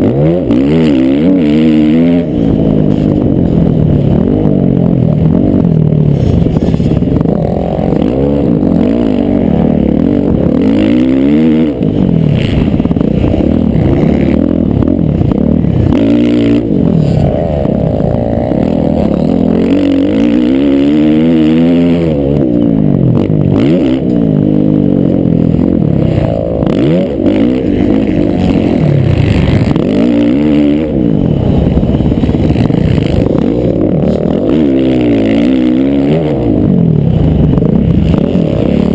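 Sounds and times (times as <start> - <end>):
motocross bike engines racing: 0.0 - 38.9.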